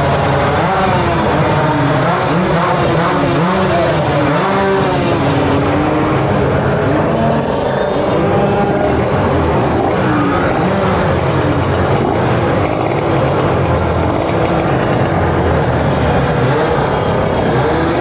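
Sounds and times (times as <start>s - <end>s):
two-stroke motorcycle engines running: 0.0s - 18.0s.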